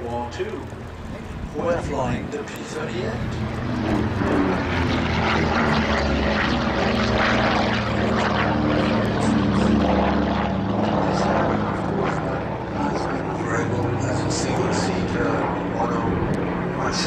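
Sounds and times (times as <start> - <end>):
aircraft piston engines in flight: 0.0 - 17.0.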